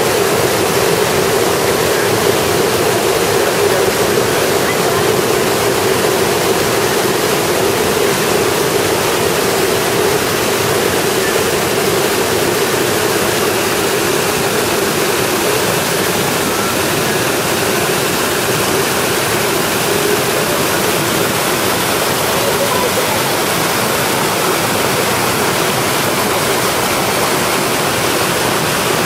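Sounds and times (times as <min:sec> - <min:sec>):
white water rushing: 0:00.0 - 0:29.0.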